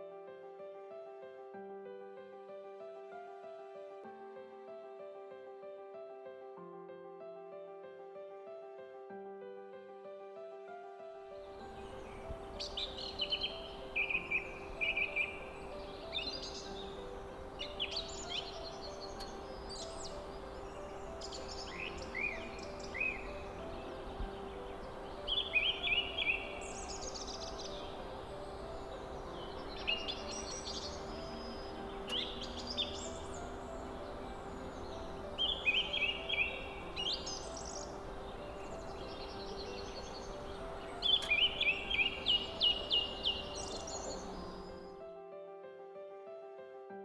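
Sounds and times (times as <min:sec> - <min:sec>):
songbird chirps and trills: 0:00.0 - 0:46.4.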